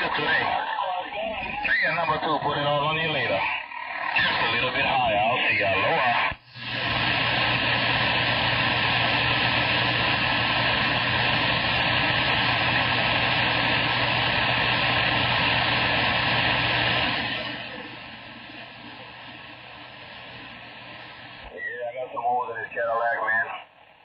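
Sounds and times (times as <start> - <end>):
radio static hiss: 0.0 - 24.0
steady hum: 0.0 - 24.0.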